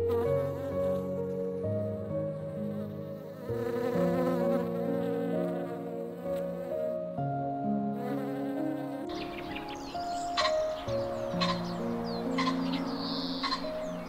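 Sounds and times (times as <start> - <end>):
honeybee buzzing: 0.0 - 14.0.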